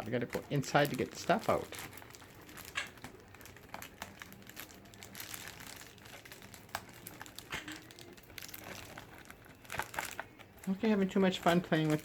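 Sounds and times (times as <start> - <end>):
parrot crinkling plastic bag: 0.0 - 12.0.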